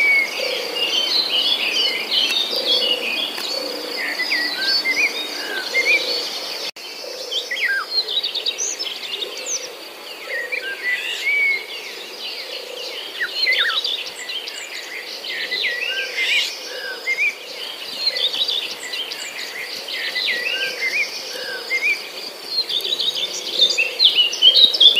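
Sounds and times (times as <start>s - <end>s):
birds chirping and twittering: 0.0s - 24.9s.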